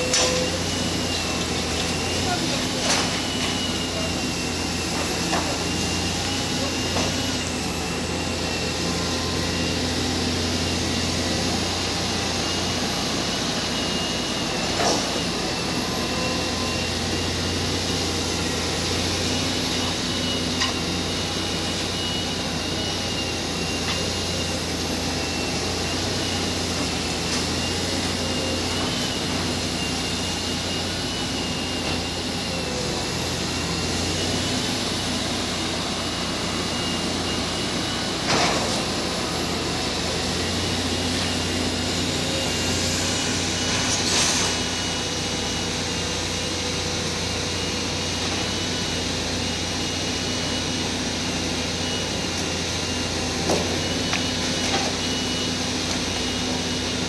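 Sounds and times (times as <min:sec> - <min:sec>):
excavator engine drone with whine: 0:00.0 - 0:57.0.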